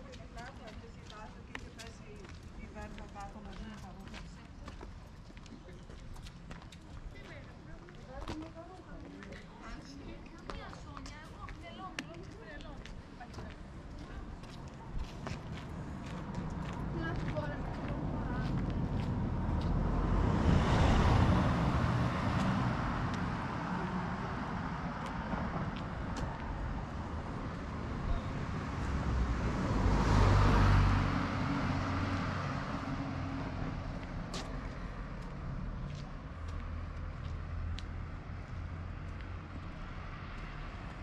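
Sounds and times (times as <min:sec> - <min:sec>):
cars passing: 0:00.0 - 0:41.0
traffic rumble: 0:00.0 - 0:41.0.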